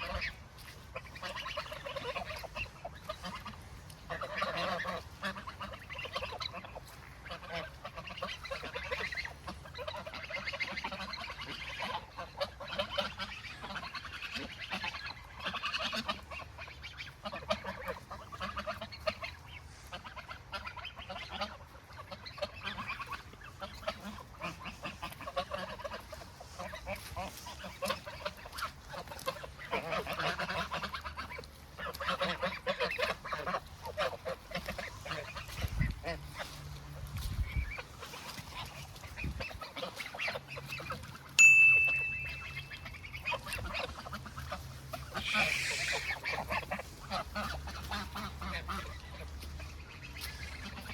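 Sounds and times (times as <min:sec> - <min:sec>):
ducks and geese calling: 0:00.0 - 0:50.9.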